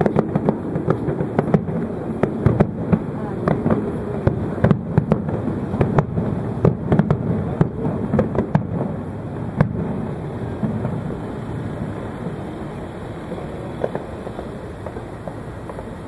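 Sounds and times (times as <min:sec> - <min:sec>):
fireworks bursting: 0:00.0 - 0:16.0
rumbling crackle: 0:00.0 - 0:16.0.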